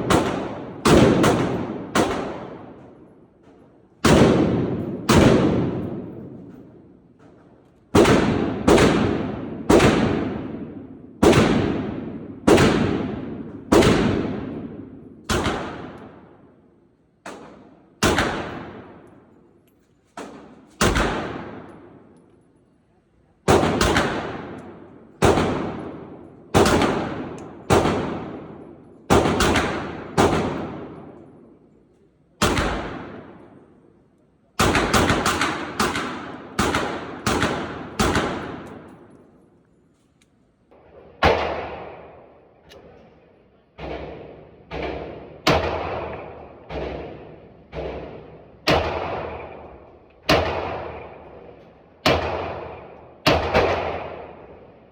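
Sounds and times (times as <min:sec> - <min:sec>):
gunshots echoing: 0:00.0 - 0:07.3, 0:07.9 - 0:19.4, 0:20.2 - 0:22.2, 0:23.5 - 0:31.7, 0:32.4 - 0:33.9, 0:34.6 - 0:39.4, 0:40.7 - 0:54.9.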